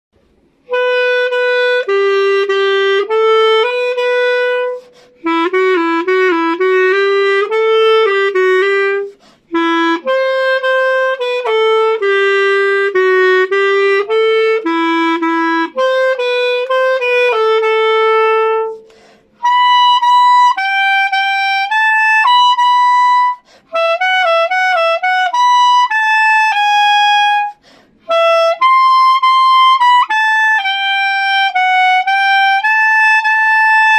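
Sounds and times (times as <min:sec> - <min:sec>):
solo clarinet melody: 0:00.3 - 0:33.9.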